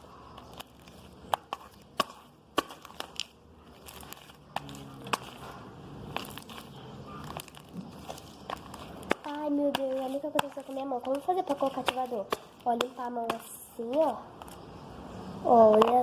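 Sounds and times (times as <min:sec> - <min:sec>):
slime popping and crackling: 0:00.0 - 0:14.6
soft slime squelching: 0:00.0 - 0:16.0.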